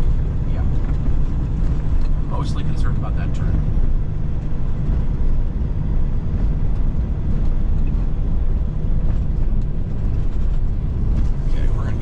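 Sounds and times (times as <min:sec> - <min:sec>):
road noise: 0:00.0 - 0:12.0
truck diesel engine drone: 0:00.0 - 0:12.0.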